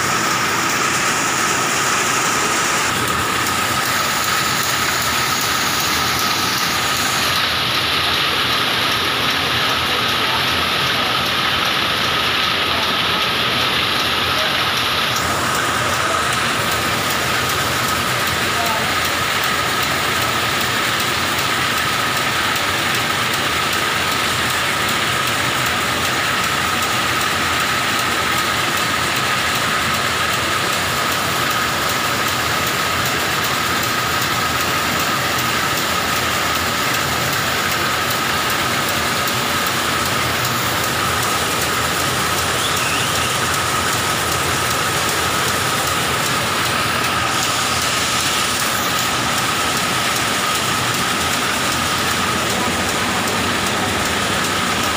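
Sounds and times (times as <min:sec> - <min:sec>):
thread reeling machines whirring: 0:00.0 - 0:54.9.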